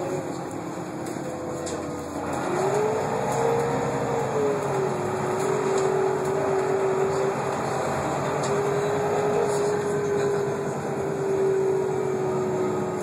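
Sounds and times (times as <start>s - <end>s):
bus running rumble: 0.0s - 13.0s.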